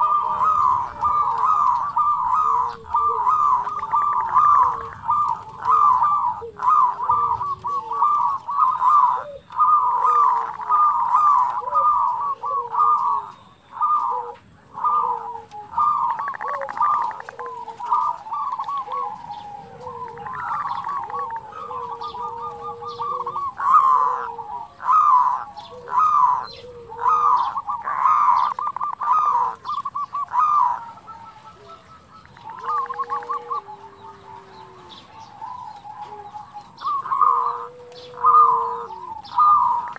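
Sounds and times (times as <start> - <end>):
dove trilled cooing: 0.0 - 39.9.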